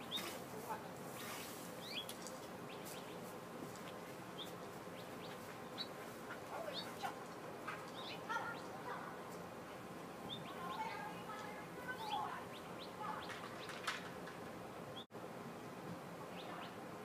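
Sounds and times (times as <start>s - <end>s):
small birds chirping: 0.0s - 14.0s, 16.2s - 17.0s.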